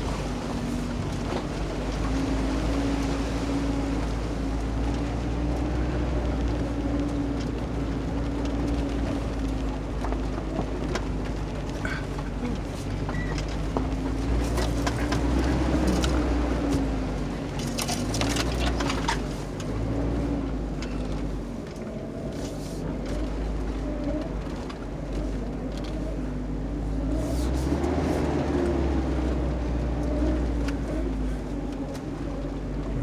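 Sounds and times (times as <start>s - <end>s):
suv engine pulling: 0.0s - 33.0s.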